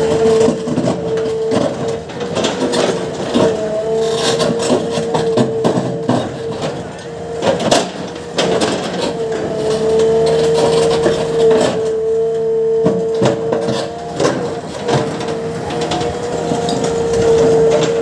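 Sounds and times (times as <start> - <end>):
excavator engine and hydraulics whine: 0.0 - 18.0.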